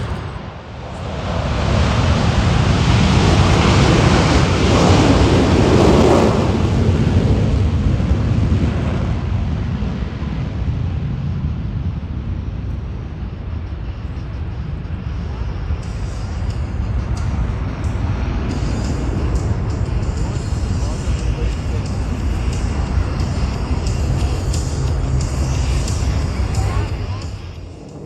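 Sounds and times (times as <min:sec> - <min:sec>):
aircraft roaring overhead: 0:00.0 - 0:28.0.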